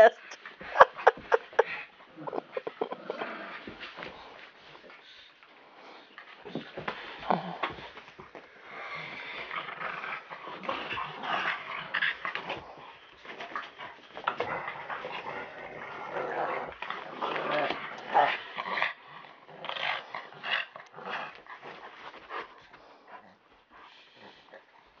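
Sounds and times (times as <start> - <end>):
dogs growling in play: 0.2 - 25.0.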